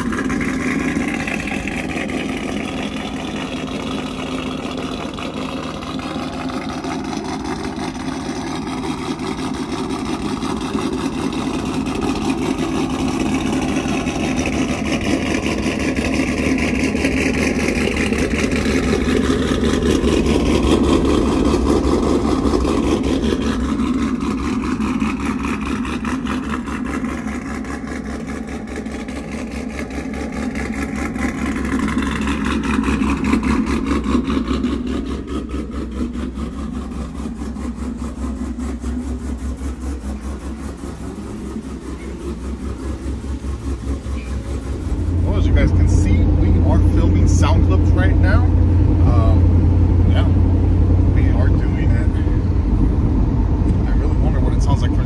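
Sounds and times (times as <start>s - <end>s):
pickup engine idling exhaust: 0.0s - 55.0s.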